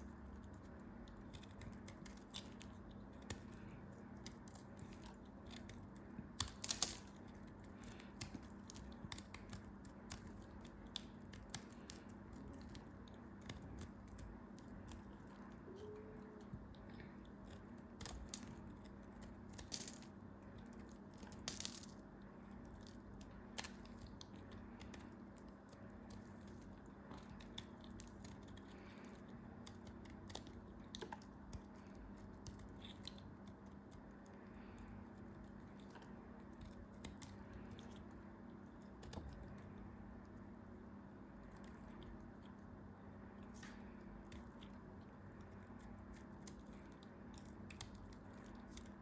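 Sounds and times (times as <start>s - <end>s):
soft handling clicks and crinkles: 0.0s - 49.0s
steady low hum: 0.0s - 49.0s.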